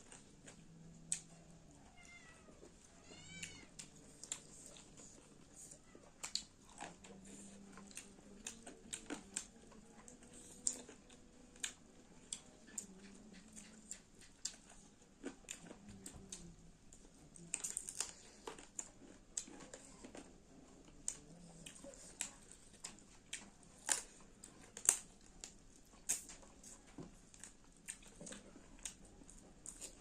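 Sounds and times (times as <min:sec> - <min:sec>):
chewing with crunches: 0:00.0 - 0:01.8, 0:02.5 - 0:30.0.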